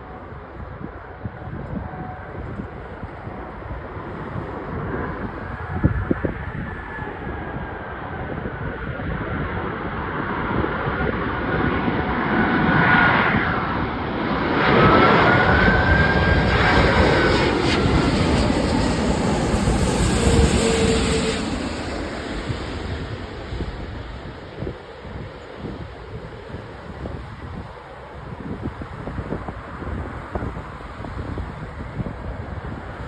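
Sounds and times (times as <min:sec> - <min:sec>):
jet engines passing: 0:00.0 - 0:33.0.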